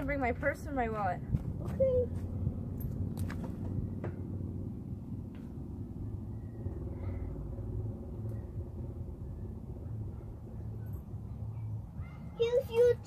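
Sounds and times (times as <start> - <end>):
steady low rumble: 0.0 - 12.1.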